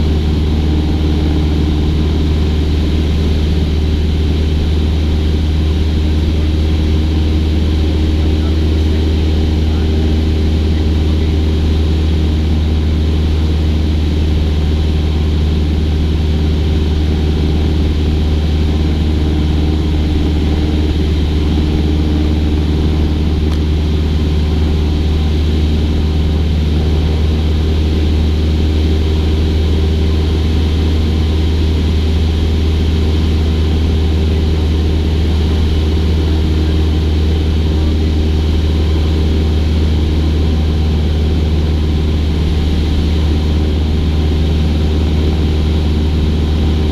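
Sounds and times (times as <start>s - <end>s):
propeller airplane engine droning: 0.0s - 46.9s.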